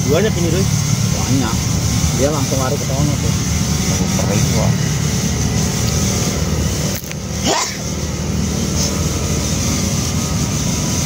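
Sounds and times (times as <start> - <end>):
low engine-like rumble: 0.0 - 11.0.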